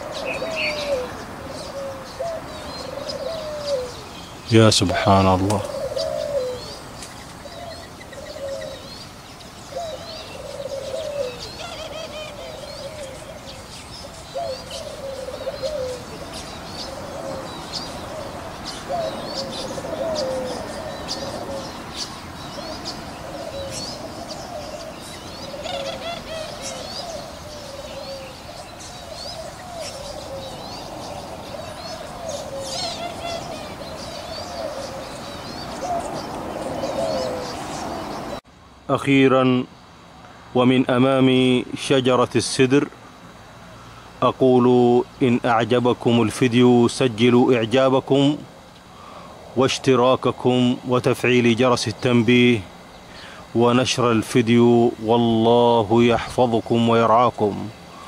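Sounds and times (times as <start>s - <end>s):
doves cooing: 0.0s - 38.4s, 39.0s - 58.0s
small birds chirping: 0.0s - 58.0s.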